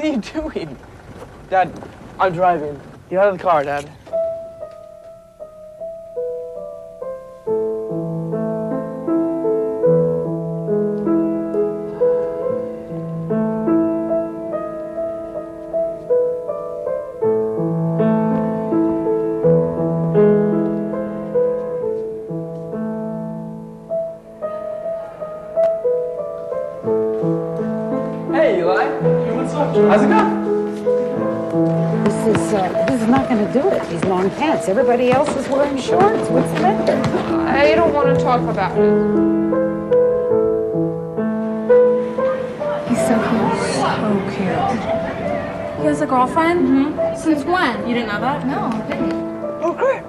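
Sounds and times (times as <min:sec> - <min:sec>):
slow solo piano piece: 0:04.0 - 0:50.0.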